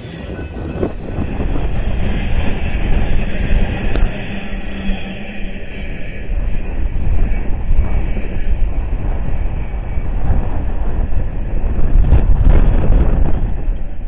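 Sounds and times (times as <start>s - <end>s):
freight train cars rolling by: 0.0s - 14.0s.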